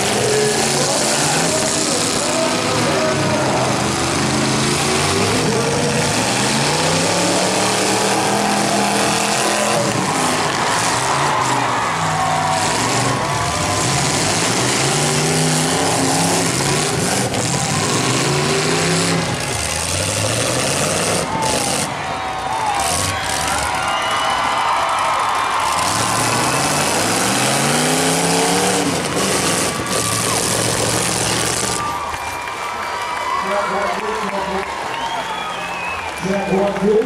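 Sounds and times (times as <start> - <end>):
car engines revving hard: 0.0 - 32.6.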